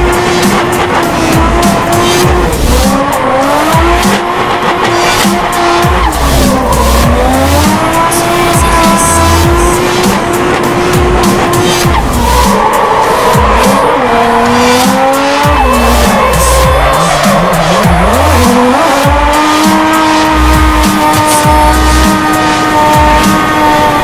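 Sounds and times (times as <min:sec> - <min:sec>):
background music: 0:00.0 - 0:24.0
car engine at high revs: 0:00.0 - 0:24.0.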